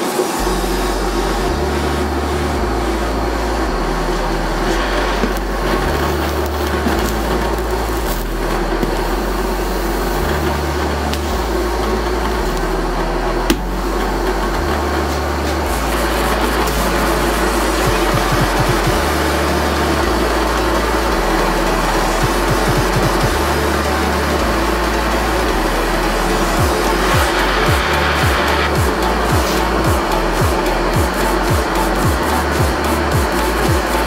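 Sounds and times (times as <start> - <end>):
electronic dance music: 0.0 - 34.0.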